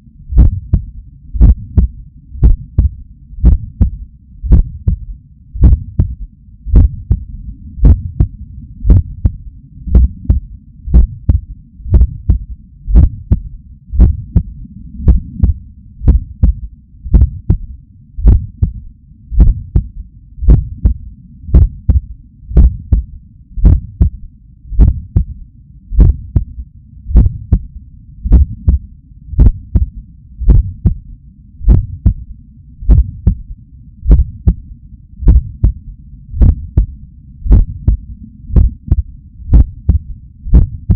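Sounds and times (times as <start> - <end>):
low continuous rumble: 0.0 - 40.9
heartbeat lub-dub: 0.3 - 40.9.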